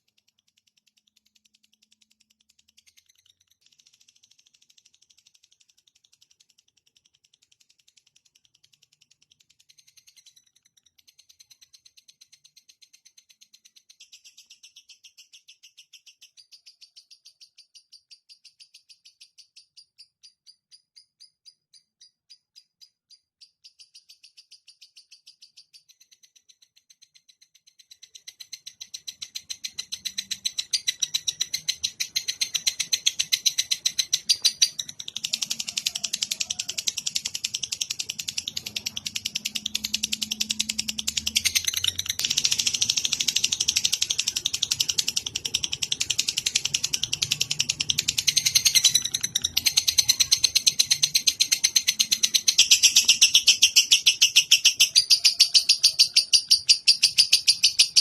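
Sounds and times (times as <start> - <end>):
songbird chirping rapidly: 8.2 - 58.0.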